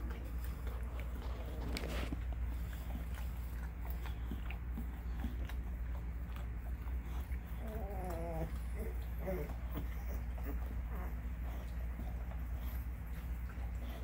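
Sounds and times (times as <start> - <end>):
dog licking puppies: 0.0 - 14.0
steady low hum: 0.0 - 14.0.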